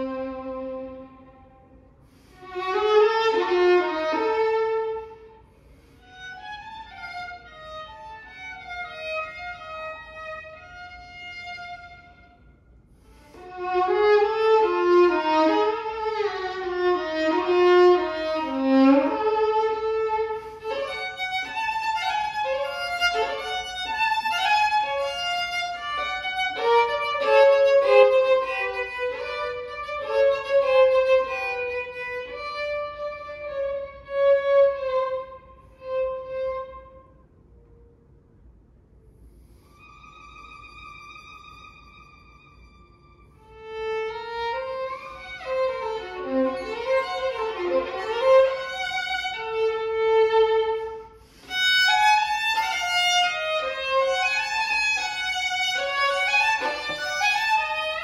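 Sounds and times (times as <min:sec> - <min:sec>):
solo violin melody: 0:00.0 - 0:37.9, 0:39.3 - 0:58.0.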